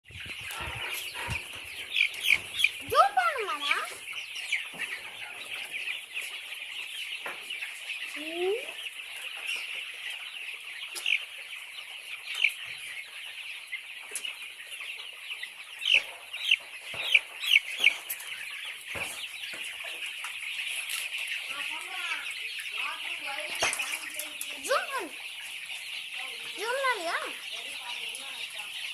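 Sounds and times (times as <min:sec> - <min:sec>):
sharp chicken calls: 0:00.1 - 0:28.7
chickens clucking: 0:00.1 - 0:28.9.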